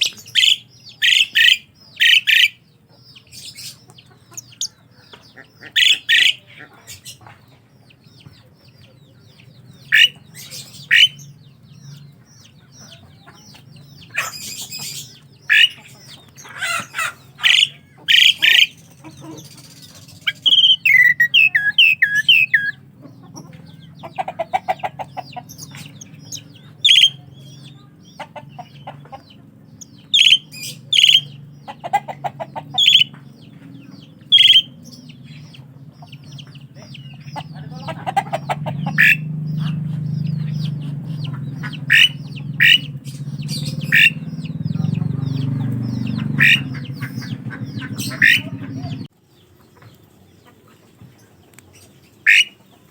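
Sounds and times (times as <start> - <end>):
starling calling and singing: 0.0 - 49.9, 51.5 - 52.9
rapid rattling chatter: 0.0 - 52.9.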